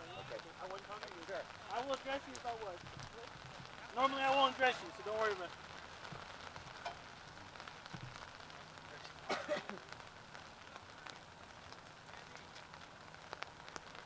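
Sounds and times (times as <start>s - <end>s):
light rain on fabric canopy: 0.0s - 14.0s.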